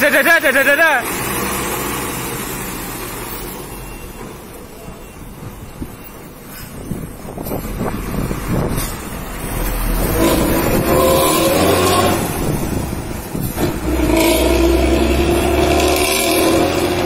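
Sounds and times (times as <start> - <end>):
bus engine through loud exhaust: 0.0 - 17.0.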